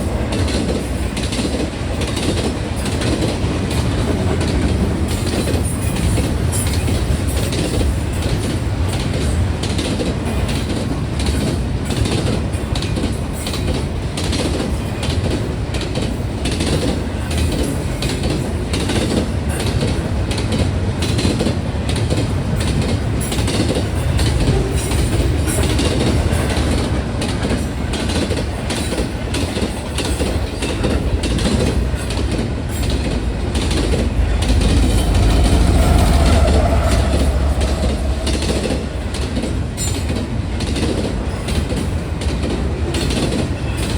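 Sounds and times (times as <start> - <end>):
train wheels rumbling on rail: 0.0 - 43.9
wheels clacking on rail joints: 0.0 - 43.9.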